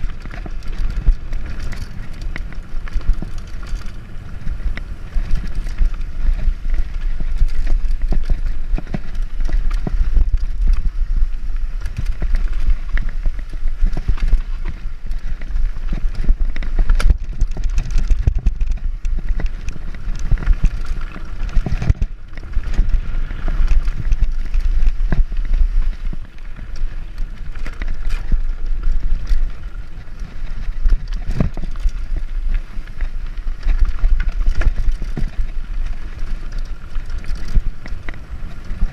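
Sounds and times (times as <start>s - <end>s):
bike rattling over bumps: 0.0s - 38.9s
bike tyres on loose gravel: 0.0s - 38.9s
wind buffeting microphone: 0.0s - 38.9s.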